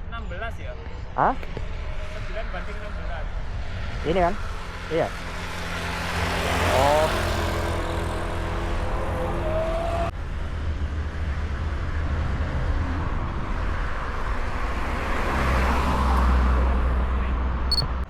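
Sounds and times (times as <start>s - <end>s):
vehicle road rumble: 0.0s - 18.0s.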